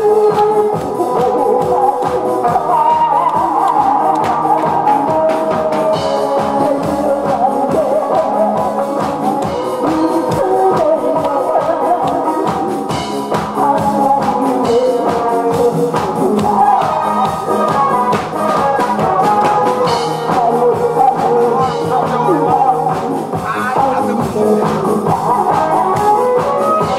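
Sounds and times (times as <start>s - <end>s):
backing track with drum beat: 0.0s - 26.9s
woman singing into microphone: 0.0s - 26.9s.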